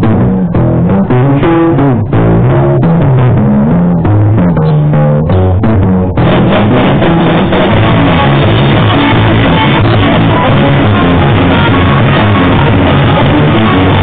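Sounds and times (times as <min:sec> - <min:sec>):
drum kit: 0:00.0 - 0:14.0
electric guitars: 0:00.0 - 0:14.0.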